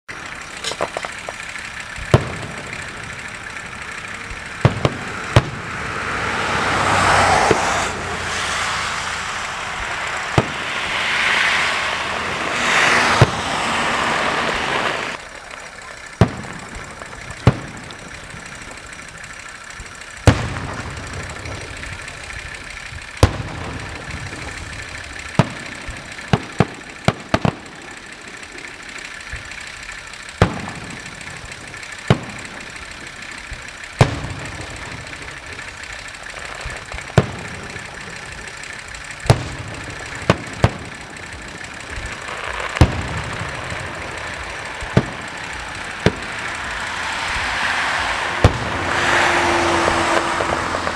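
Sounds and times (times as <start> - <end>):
firework shells bursting: 0.1 - 50.9
low rumble: 0.1 - 50.9
steady hiss: 0.1 - 50.9.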